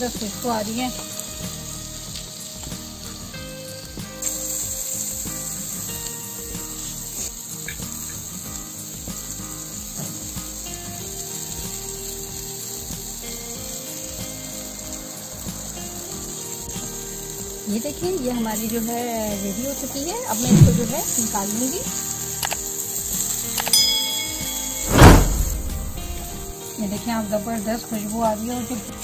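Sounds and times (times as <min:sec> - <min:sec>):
chicken sizzling on a grill: 0:00.0 - 0:24.9, 0:25.6 - 0:29.0
soft instrumental music: 0:00.0 - 0:29.0.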